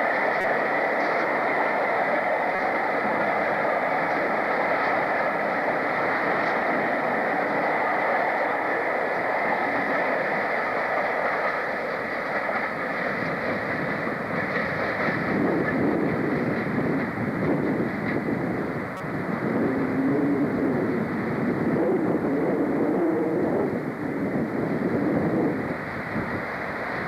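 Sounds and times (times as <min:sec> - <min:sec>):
train running: 0:00.0 - 0:27.0.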